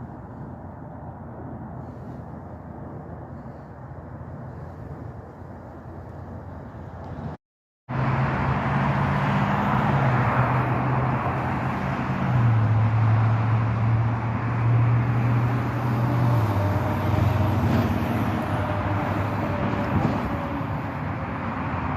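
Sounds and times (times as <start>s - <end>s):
road noise: 0.0s - 21.9s
vehicle engine hum: 0.0s - 21.9s.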